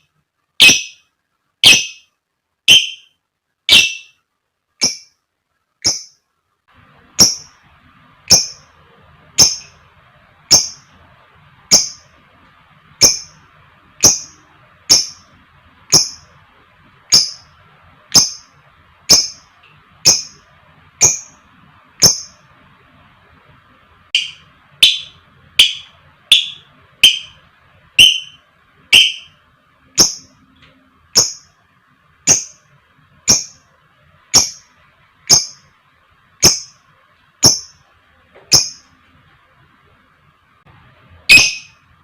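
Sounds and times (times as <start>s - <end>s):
bird chirping: 0.0s - 4.2s, 4.8s - 5.2s, 5.8s - 6.2s, 7.0s - 22.7s, 24.1s - 31.6s, 32.2s - 35.8s, 36.4s - 39.0s, 41.3s - 41.9s.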